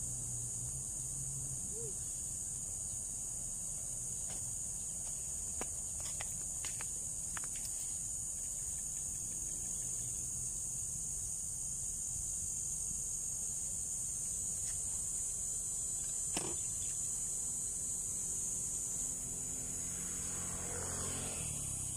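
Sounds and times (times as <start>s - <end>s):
insects chirring: 0.0s - 21.9s.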